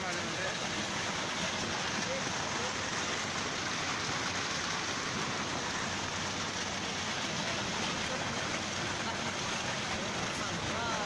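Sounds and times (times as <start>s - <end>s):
mudflow rushing down slope: 0.0s - 11.0s.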